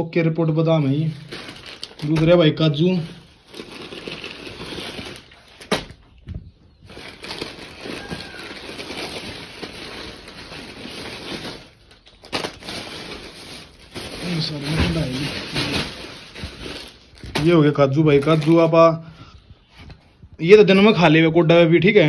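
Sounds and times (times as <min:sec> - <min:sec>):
plastic bags crinkling: 0:00.2 - 0:19.0.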